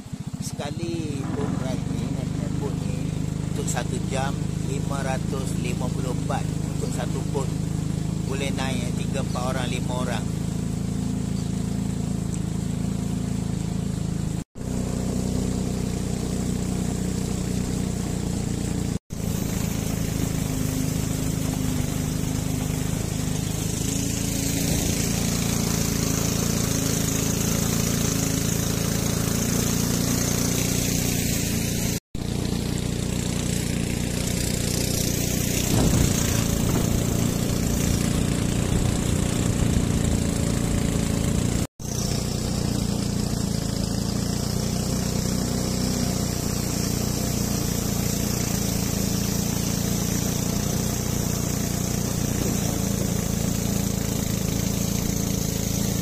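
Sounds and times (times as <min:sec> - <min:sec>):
motorboat engine running: 0:00.0 - 0:56.0
rushing water: 0:00.0 - 0:56.0
wind: 0:00.0 - 0:56.0.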